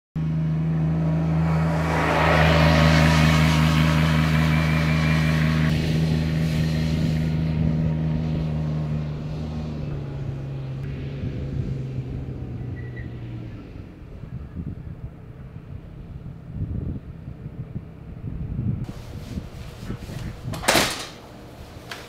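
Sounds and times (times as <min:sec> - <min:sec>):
vehicle engine running: 0:00.2 - 0:20.5.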